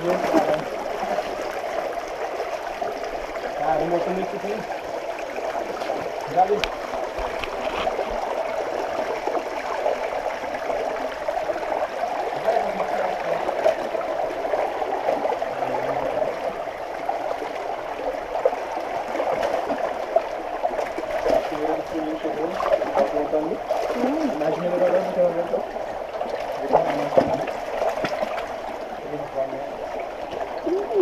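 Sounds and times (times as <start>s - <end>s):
water rushing over rock: 0.0s - 31.0s.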